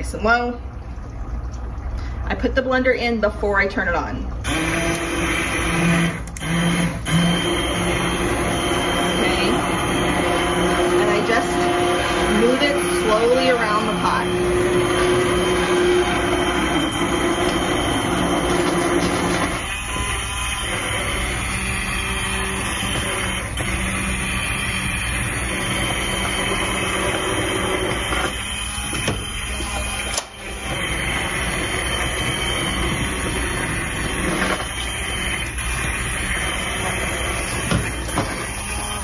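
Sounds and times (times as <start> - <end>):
immersion blender motor whine: 4.4 - 39.0.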